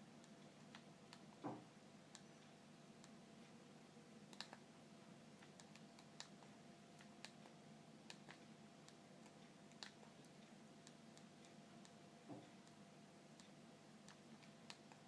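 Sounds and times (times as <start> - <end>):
faint irregular clicks: 0.2 - 3.6, 4.2 - 4.7, 5.3 - 15.0.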